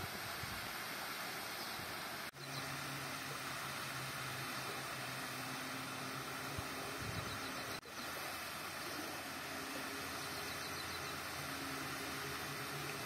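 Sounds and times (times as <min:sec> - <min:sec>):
water rushing over a dam: 0:00.0 - 0:13.0.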